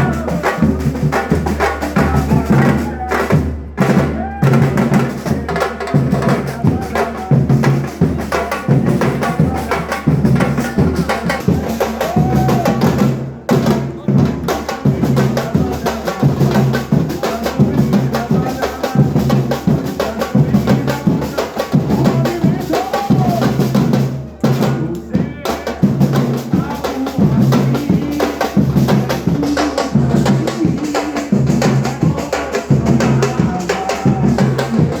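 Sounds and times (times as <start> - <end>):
street drummers playing: 0.0 - 35.0.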